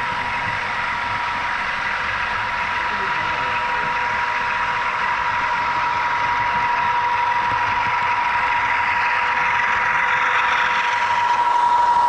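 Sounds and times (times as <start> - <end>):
constant high-pitched tone: 0.0 - 12.0
model train diesel engine sound: 0.0 - 12.0.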